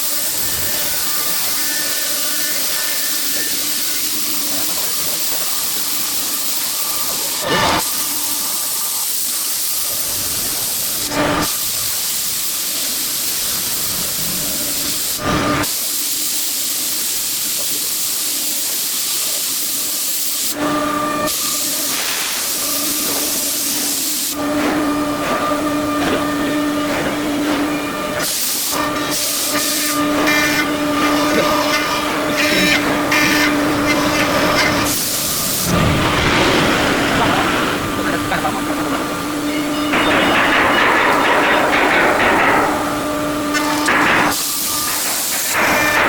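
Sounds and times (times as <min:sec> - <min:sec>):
machine whine: 0:00.0 - 0:15.7, 0:20.5 - 0:46.0
loud hiss of air: 0:00.0 - 0:46.0.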